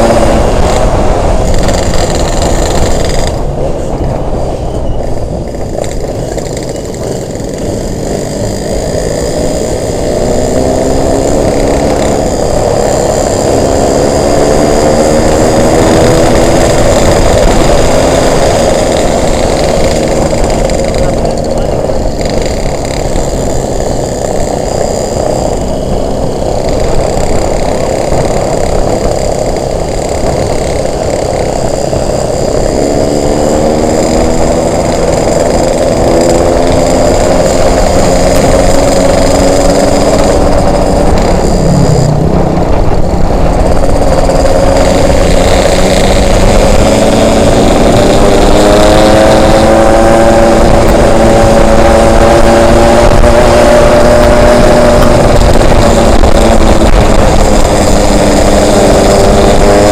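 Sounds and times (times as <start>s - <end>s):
motorcycle two-stroke engine: 0.0s - 59.9s
wind noise on microphone: 0.0s - 59.9s.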